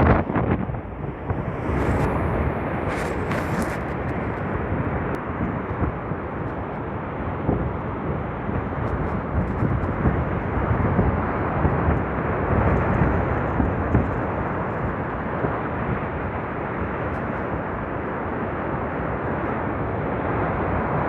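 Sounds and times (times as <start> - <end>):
strong wind blowing: 0.0 - 21.0.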